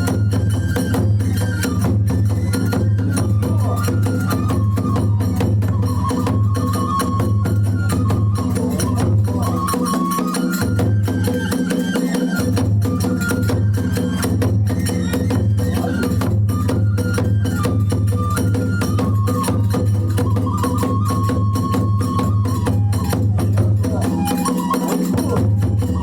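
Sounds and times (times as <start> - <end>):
bamboo flute melody: 0.0 - 26.0
drum beat: 0.0 - 26.0
small hand cymbals: 0.0 - 26.0.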